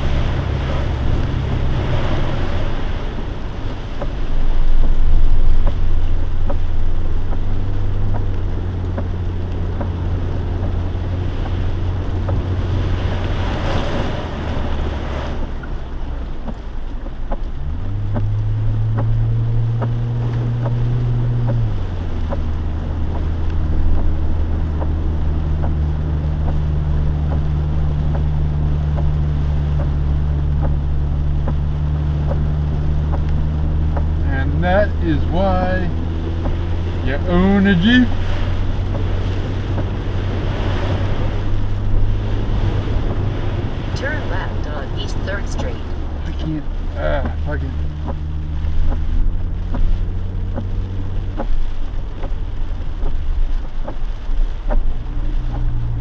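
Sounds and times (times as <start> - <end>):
car engine droning: 0.0 - 56.0
water rushing and spraying: 0.0 - 56.0.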